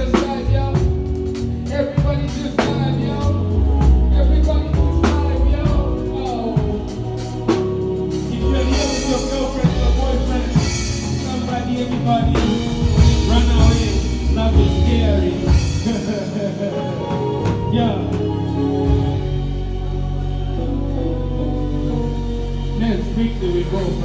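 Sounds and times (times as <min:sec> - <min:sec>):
song with singing bass and drums: 0:00.0 - 0:24.0.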